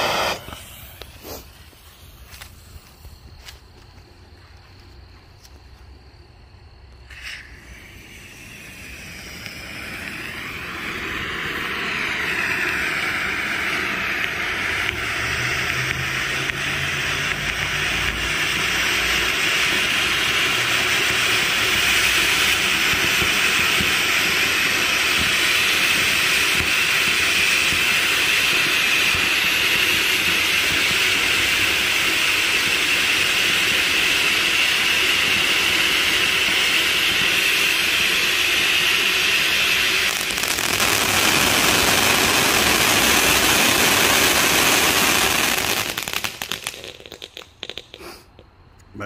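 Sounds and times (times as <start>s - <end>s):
firework fountain hissing: 0.0s - 48.5s.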